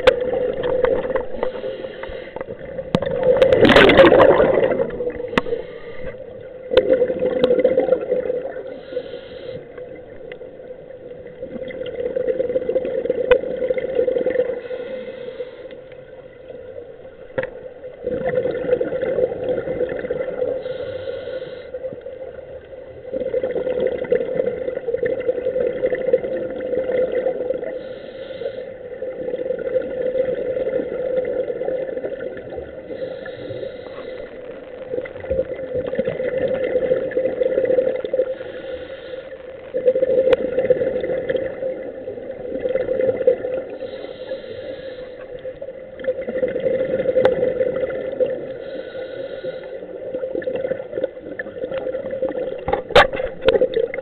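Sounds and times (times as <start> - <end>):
underwater bubbles gurgling: 0.0 - 54.0.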